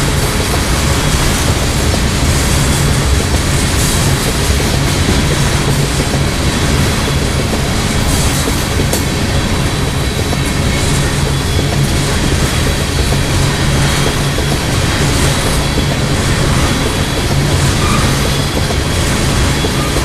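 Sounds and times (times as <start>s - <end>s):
train wheels rumbling and rattling: 0.0s - 20.0s.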